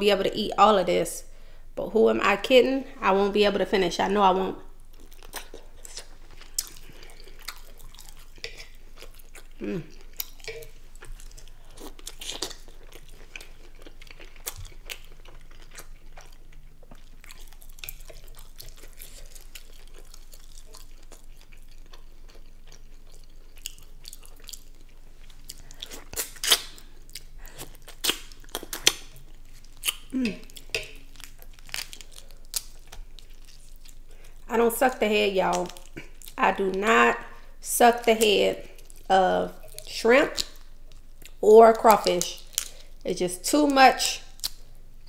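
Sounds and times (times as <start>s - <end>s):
close chewing with wet mouth sounds: 4.7s - 43.1s.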